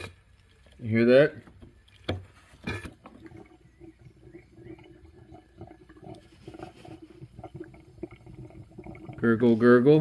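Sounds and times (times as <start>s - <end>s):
air bubbles gurgling in coolant: 0.0s - 10.0s.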